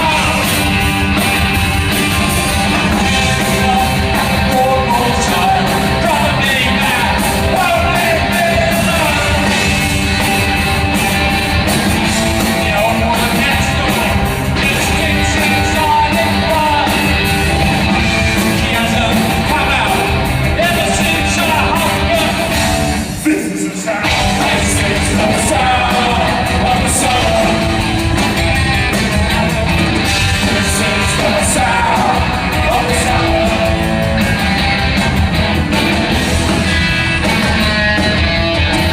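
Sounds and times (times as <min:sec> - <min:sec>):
punk rock band playing: 0:00.0 - 0:38.9
shouted lead vocal: 0:00.0 - 0:38.9.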